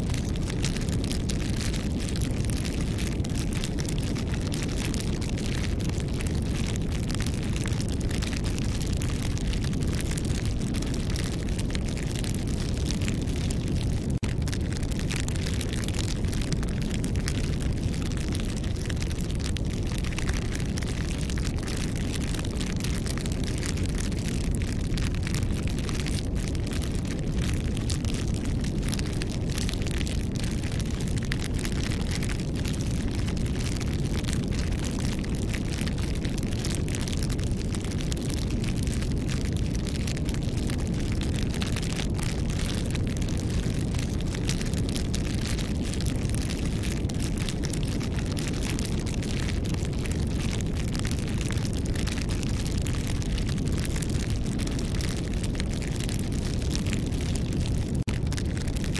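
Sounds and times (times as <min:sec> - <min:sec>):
campfire popping and snapping: 0:00.0 - 0:58.9
low rumble of flames: 0:00.0 - 0:58.9.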